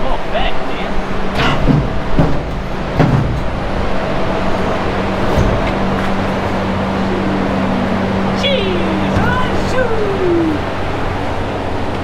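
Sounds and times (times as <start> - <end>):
engine idling: 0.3 - 12.0.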